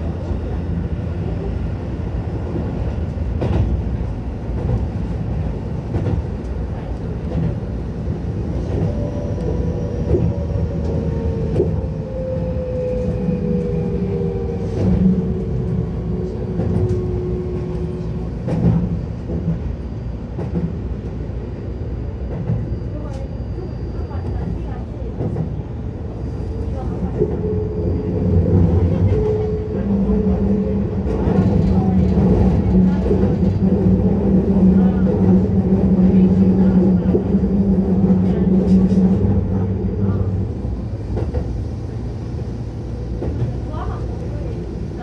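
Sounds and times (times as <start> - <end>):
electric train rumbling: 0.0 - 45.0.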